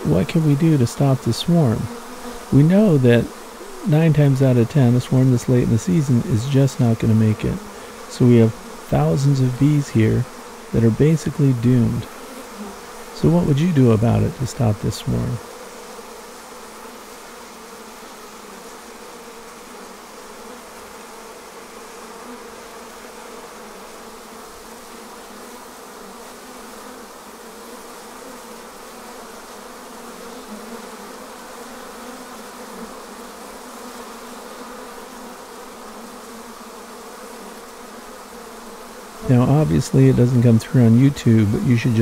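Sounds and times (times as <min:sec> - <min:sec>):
honeybees buzzing: 0:00.0 - 0:42.0.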